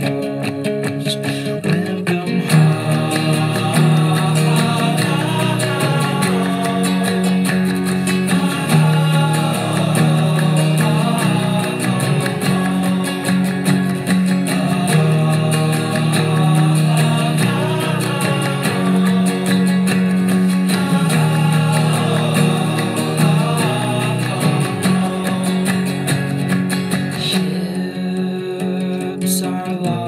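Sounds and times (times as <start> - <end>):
acoustic guitar strumming: 0.0 - 30.0
bass line: 2.5 - 27.2.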